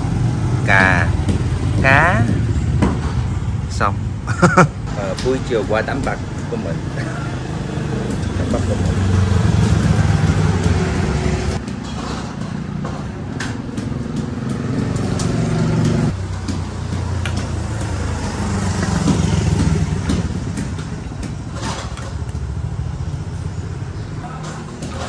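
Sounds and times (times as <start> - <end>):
motorbike engines droning: 0.0 - 25.0.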